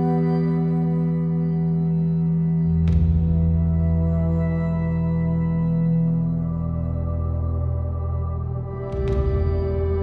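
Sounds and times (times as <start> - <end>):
ambient new-age music: 0.0 - 10.0.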